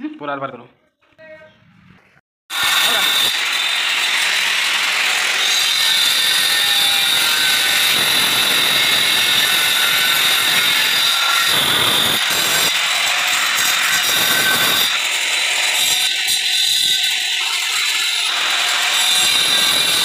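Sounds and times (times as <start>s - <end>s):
angle grinder cutting stone: 2.5s - 20.0s.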